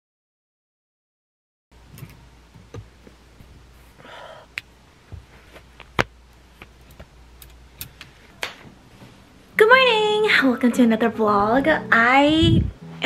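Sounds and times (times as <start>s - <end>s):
low steady hum: 1.8s - 13.0s.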